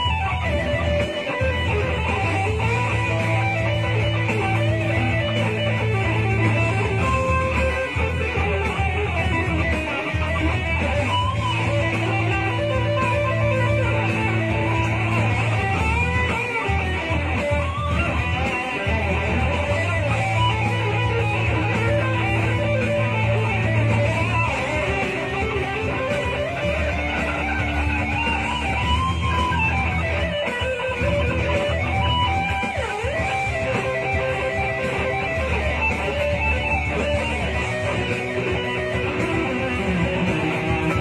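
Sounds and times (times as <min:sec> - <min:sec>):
electric guitar lead line: 0:00.0 - 0:41.0.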